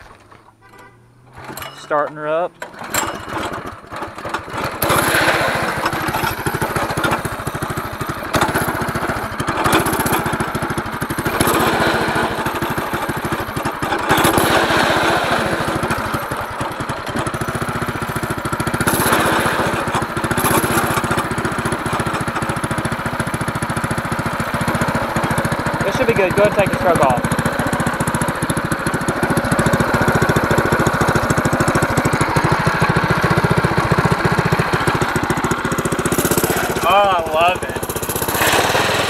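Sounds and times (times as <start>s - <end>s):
small engine running: 2.6s - 39.0s.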